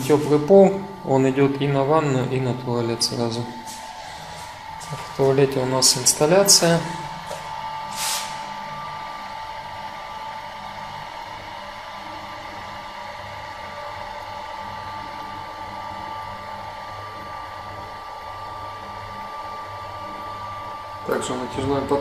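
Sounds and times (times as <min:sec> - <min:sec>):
electric fan motor whirring: 0:00.0 - 0:22.0.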